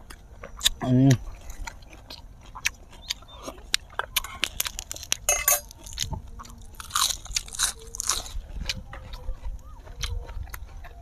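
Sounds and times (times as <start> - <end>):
people chewing crunchy food: 0.0 - 11.0.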